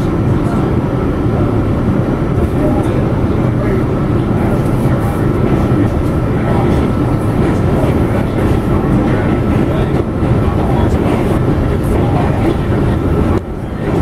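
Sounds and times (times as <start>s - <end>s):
subway car rumbling: 0.0s - 14.0s.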